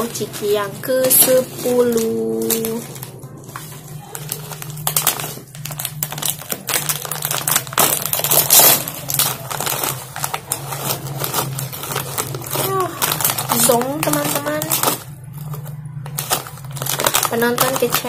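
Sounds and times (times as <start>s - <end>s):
plastic snack bag crinkling: 0.0s - 18.0s.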